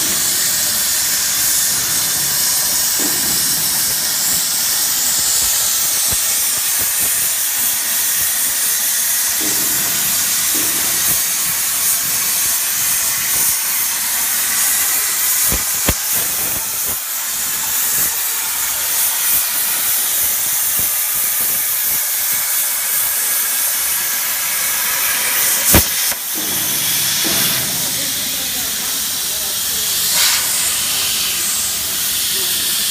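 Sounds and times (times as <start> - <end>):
cutting torch hissing: 0.0 - 32.9.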